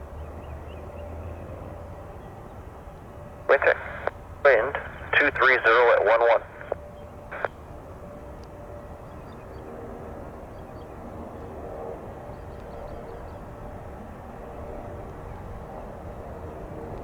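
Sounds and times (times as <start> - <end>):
jet engines rumbling: 1.5 - 17.0.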